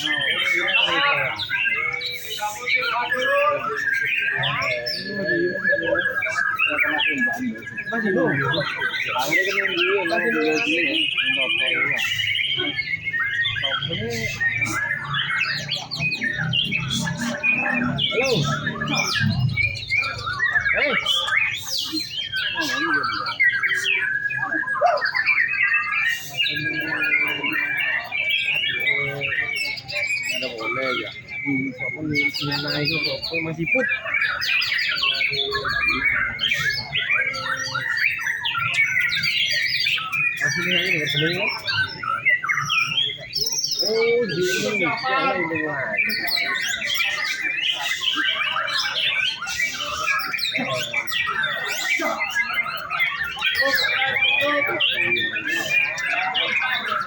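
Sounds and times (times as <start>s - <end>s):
birds singing whistled phrases: 0.0s - 57.0s.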